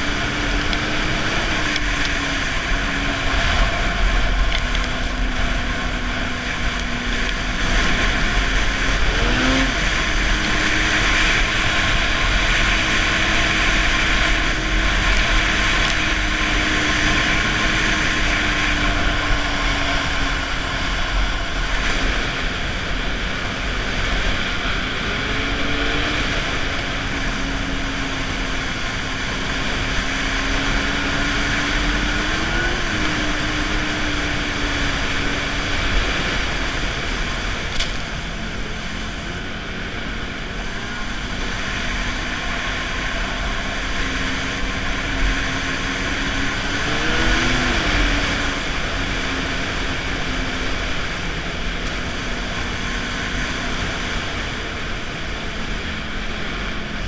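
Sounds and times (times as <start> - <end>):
snowmobile engine and track: 0.0 - 57.0.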